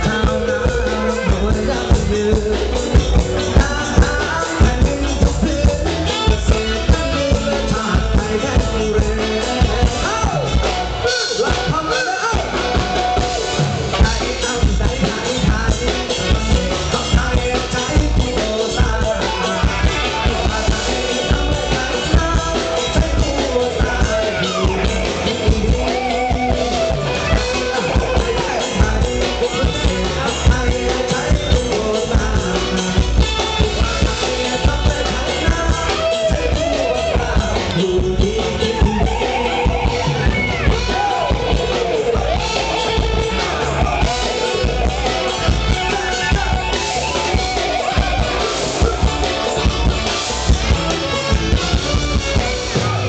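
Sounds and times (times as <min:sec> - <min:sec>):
drum kit dance beat: 0:00.0 - 0:53.0
electric guitars: 0:00.0 - 0:53.0
man singing: 0:00.0 - 0:53.0.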